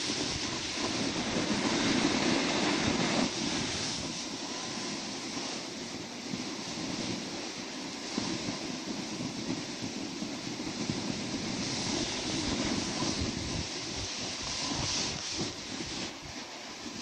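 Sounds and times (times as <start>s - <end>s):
snowboard scraping over snow: 0.0s - 17.0s.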